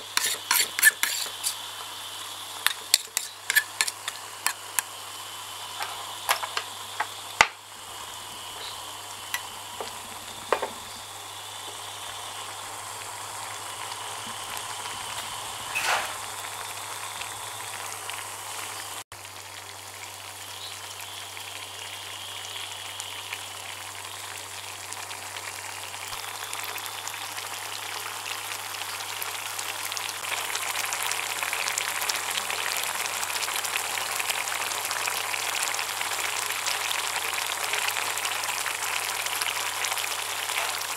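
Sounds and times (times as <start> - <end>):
sauce bubbling and sizzling: 0.0 - 40.9.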